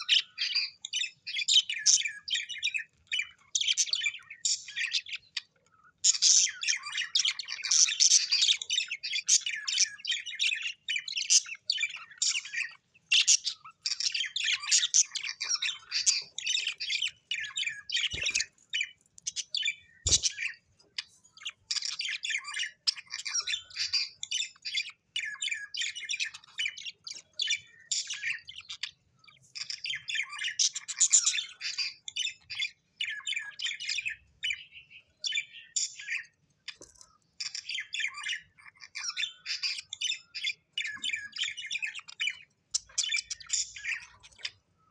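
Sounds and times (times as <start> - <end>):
small parrots chattering: 0.0 - 44.8.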